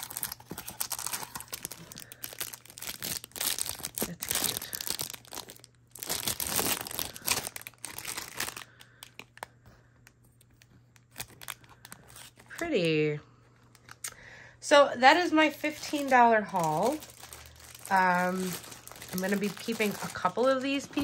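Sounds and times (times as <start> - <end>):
plastic bag crinkling: 0.0 - 9.6, 11.0 - 13.0, 15.1 - 21.0.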